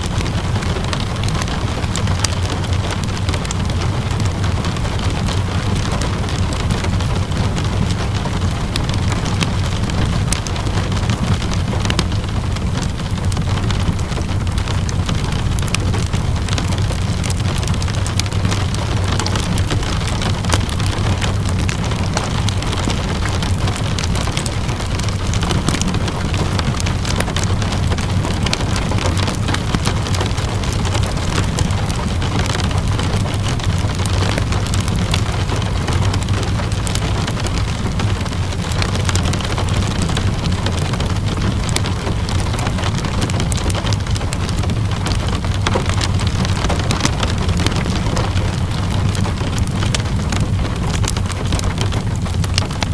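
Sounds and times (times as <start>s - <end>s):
steady rainfall: 0.0s - 52.9s
wood fire crackling: 0.0s - 52.9s.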